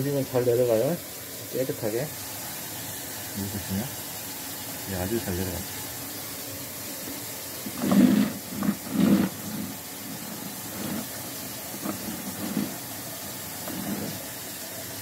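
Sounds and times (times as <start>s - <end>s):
water hissing down a drain pipe: 0.0s - 15.0s
low gurgles: 2.2s - 14.7s.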